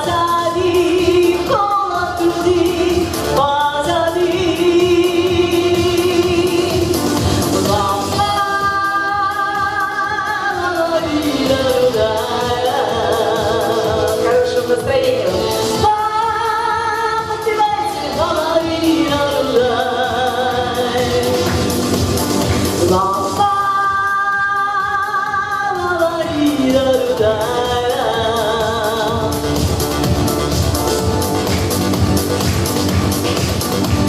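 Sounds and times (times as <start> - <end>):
instrumental backing music: 0.0 - 34.0
woman singing pop song: 0.0 - 34.0.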